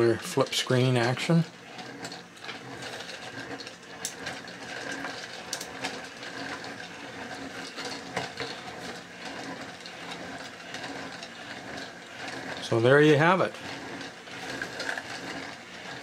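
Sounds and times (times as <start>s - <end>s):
gears clicking rapidly: 0.0s - 16.0s
toy robot motor whirring: 0.0s - 16.0s.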